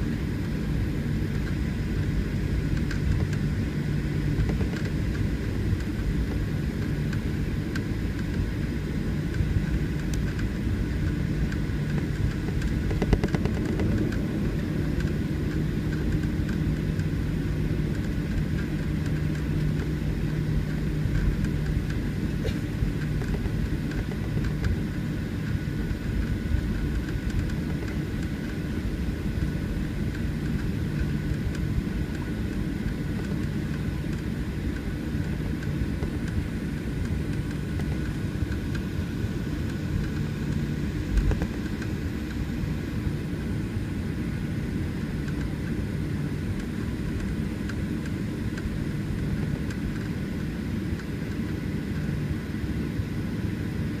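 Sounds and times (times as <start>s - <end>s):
airplane cabin hum: 0.0s - 54.0s.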